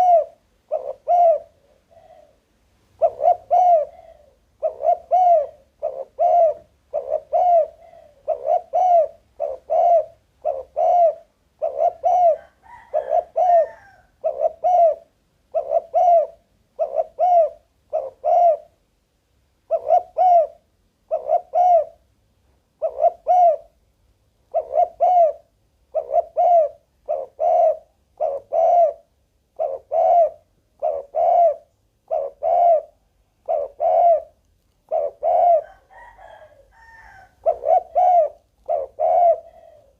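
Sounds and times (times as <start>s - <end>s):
dove cooing: 0.0s - 18.8s, 19.7s - 22.0s, 22.8s - 23.8s, 24.5s - 39.9s.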